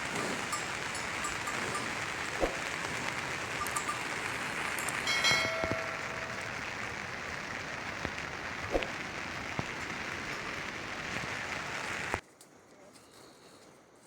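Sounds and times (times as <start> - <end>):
rain falling: 0.0 - 12.2
raindrops tapping a surface: 0.0 - 12.2.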